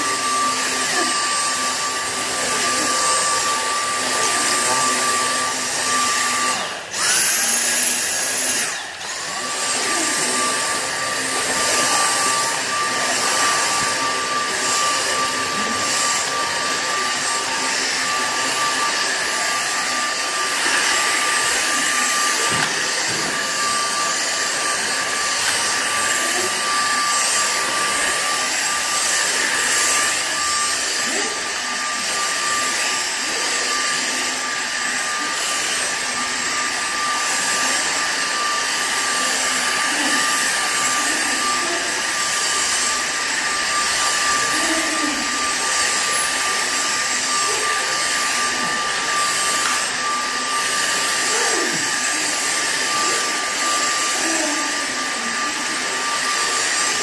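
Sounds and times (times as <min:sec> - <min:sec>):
high motor whine: 0:00.0 - 0:57.0
vacuum cleaner running: 0:00.0 - 0:57.0.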